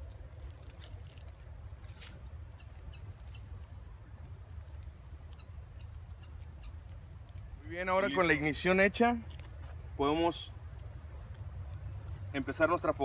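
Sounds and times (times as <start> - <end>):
faint scattered ticks: 0.0 - 13.0
low steady rumble: 0.0 - 13.0.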